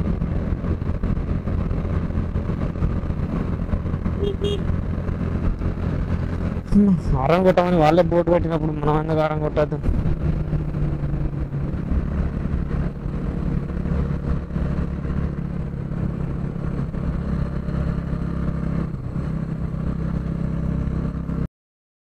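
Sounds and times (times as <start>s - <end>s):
motorcycle engine running: 0.0s - 21.5s
road noise: 0.0s - 21.5s.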